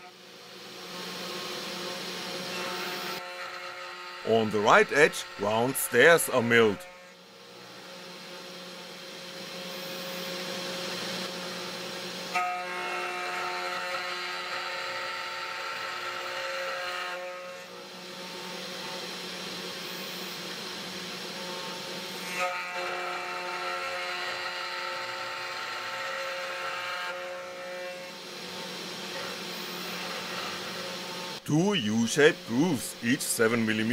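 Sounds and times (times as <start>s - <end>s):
cnc router cutting plastic: 0.8s - 11.5s, 12.2s - 33.9s.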